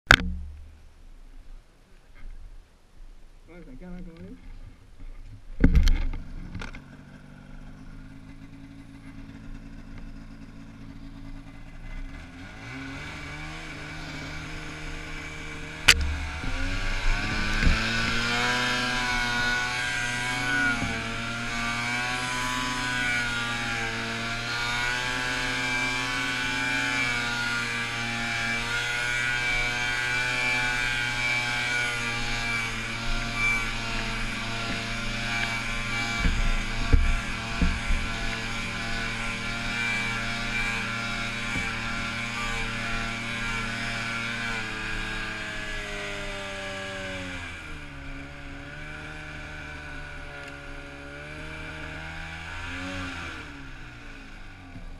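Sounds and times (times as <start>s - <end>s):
snowmobile engine: 3.6s - 54.9s.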